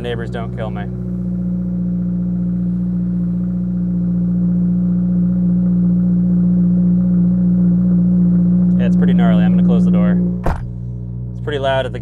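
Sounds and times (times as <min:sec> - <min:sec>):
car engine fast idling: 0:00.0 - 0:12.0.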